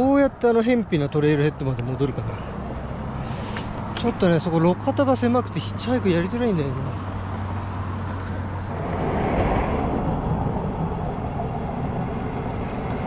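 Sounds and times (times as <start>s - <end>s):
vehicle passing on road: 1.1s - 13.0s.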